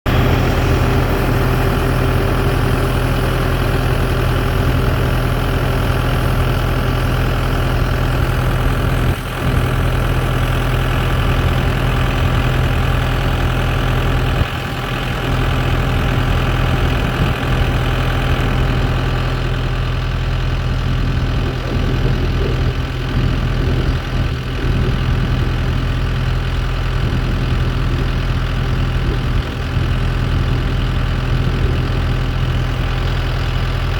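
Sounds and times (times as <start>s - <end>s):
tractor engine droning: 0.1s - 33.9s.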